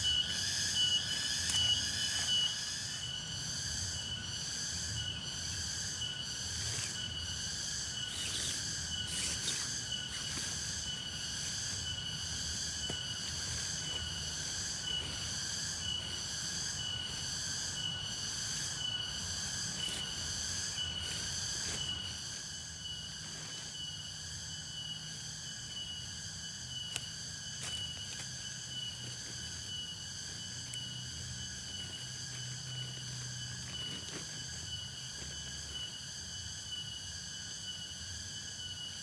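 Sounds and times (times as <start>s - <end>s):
high insect trill: 0.0s - 39.0s
rhythmic cricket chirping: 0.0s - 39.0s.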